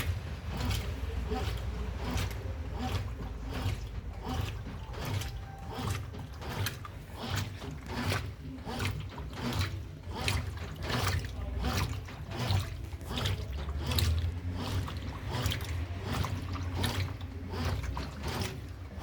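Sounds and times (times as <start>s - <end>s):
washing machine motor hum: 0.0s - 19.0s
water and clothes sloshing: 0.0s - 19.0s.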